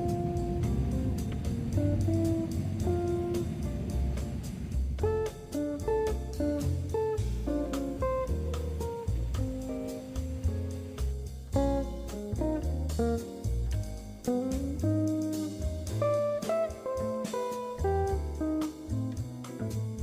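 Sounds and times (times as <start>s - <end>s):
bass line: 0.0s - 20.0s
plucked guitar melody: 0.0s - 20.0s
steady beat: 0.0s - 20.0s.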